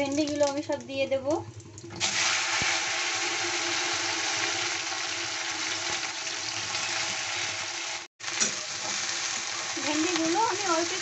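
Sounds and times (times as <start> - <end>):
okra sizzling in hot oil: 2.0 - 11.0.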